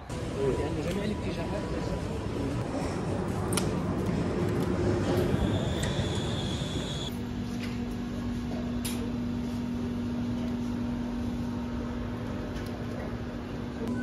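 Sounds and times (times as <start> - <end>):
hum and hiss of machinery: 0.0 - 14.0.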